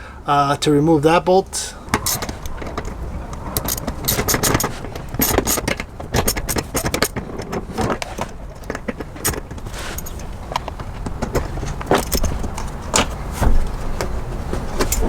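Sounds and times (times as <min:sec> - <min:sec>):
steady low rumble: 0:00.0 - 0:15.0
tool clicking and scraping metal: 0:01.9 - 0:15.0.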